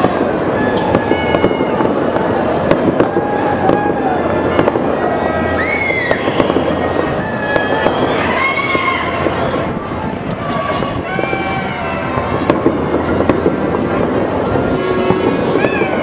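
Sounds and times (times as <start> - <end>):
fireworks crackling: 0.0 - 16.0
fireworks whistling: 0.0 - 16.0.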